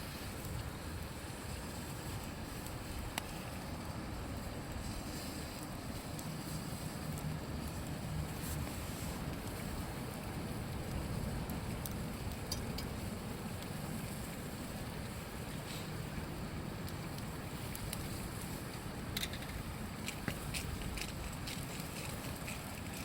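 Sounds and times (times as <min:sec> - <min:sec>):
flowing river water: 0:00.0 - 0:23.0
campfire crackling and popping: 0:00.2 - 0:23.0.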